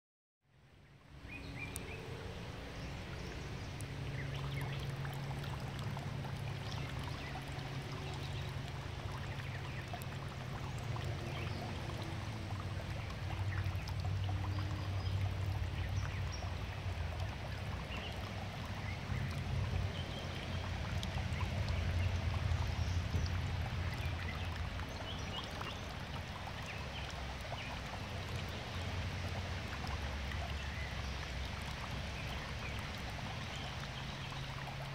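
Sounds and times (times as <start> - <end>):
water pouring into pond: 0.5 - 34.9.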